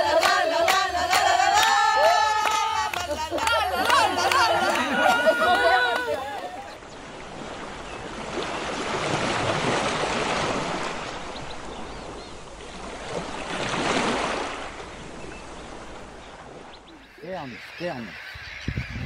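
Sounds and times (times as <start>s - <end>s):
sea waves breaking on beach: 0.0s - 17.9s.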